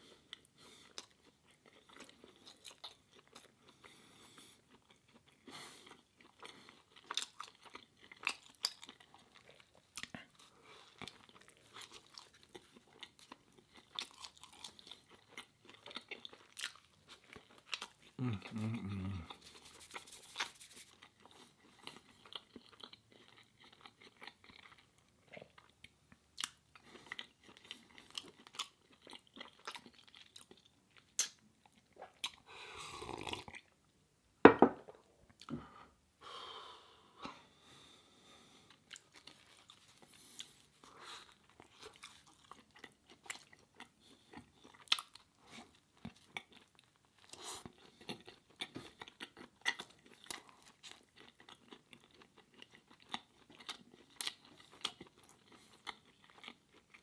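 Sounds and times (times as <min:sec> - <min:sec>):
chewing crunchy bread: 0:00.0 - 0:33.8, 0:38.4 - 0:57.0.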